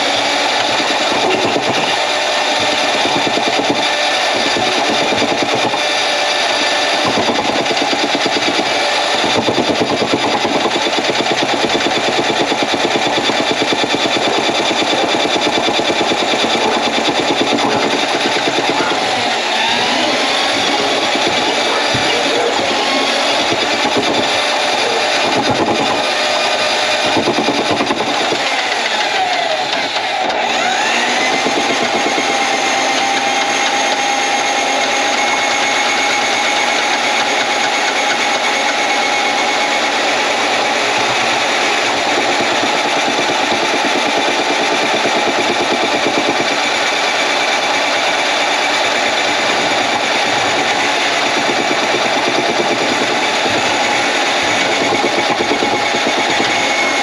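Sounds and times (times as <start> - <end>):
drain cleaning machine motor: 0.0 - 57.0.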